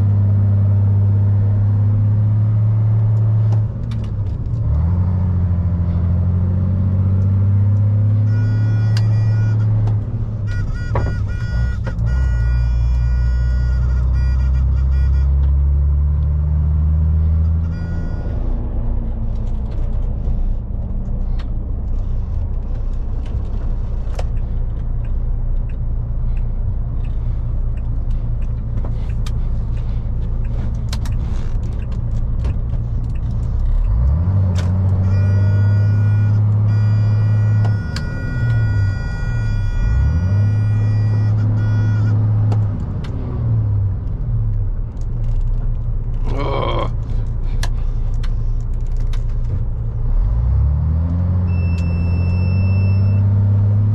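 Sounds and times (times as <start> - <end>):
lorry diesel engine whining: 0.0 - 53.9.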